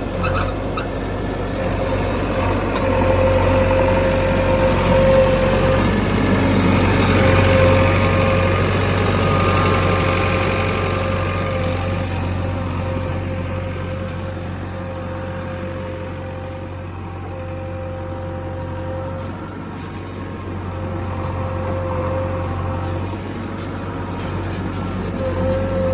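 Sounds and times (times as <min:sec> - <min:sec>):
constant engine whine: 0:00.0 - 0:25.9
diesel engine rumble: 0:00.0 - 0:25.9.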